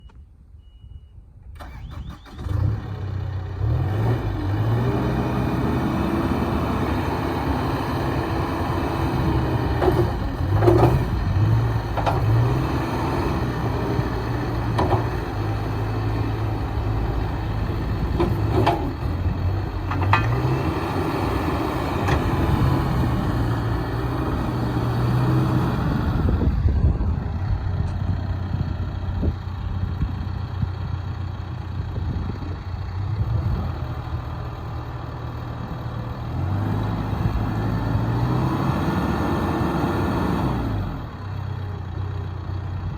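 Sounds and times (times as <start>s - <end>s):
diesel engine starting and running: 1.4s - 42.9s.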